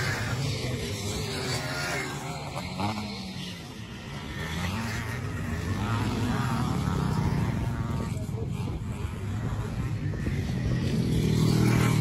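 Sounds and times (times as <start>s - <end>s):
distant motorcycle engines revving: 0.0s - 12.0s.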